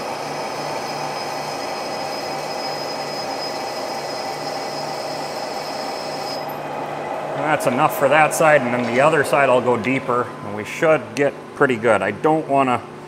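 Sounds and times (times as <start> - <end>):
metal lathe humming: 0.0 - 11.6
high whine: 0.0 - 11.8.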